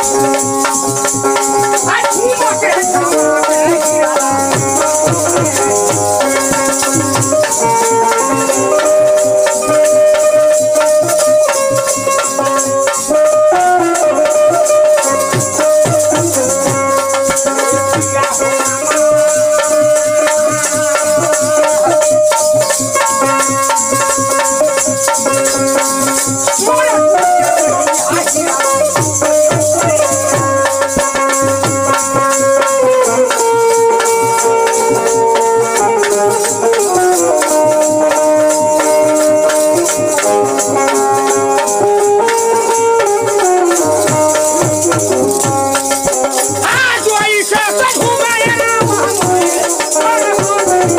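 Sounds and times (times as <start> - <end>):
clapper with jingles rattling: 0.0 - 13.1, 14.0 - 50.9
banjo melody of held notes: 0.0 - 50.9
hand drum keeping time: 0.0 - 50.9.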